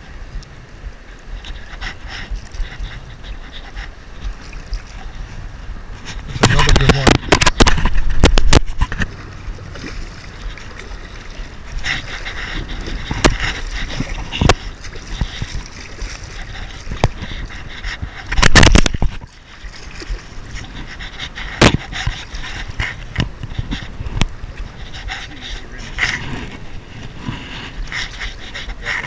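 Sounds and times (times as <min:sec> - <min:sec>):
shallow water splashing: 0:00.9 - 0:29.0.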